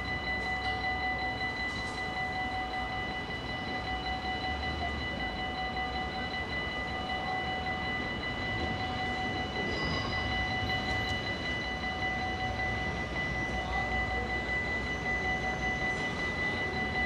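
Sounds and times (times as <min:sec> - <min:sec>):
level-crossing bell ringing: 0:00.0 - 0:17.0
train rumbling on rails: 0:00.0 - 0:17.0.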